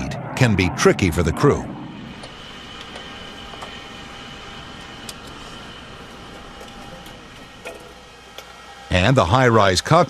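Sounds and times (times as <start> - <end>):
high-pitched whine: 0.0 - 10.0
machine noise: 0.0 - 10.0.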